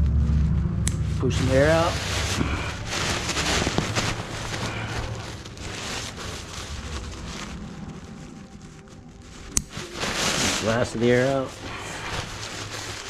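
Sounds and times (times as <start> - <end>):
nylon cloth rustling in bag: 0.0 - 13.0.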